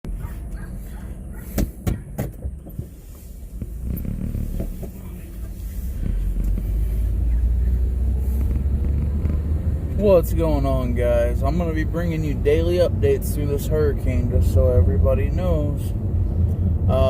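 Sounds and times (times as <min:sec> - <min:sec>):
motor vehicle rumbling: 0:00.0 - 0:17.0.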